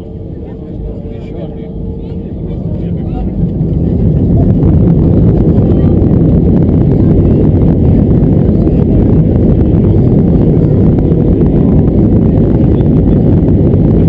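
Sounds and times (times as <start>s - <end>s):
jet engine cabin rumble: 0.0s - 14.0s.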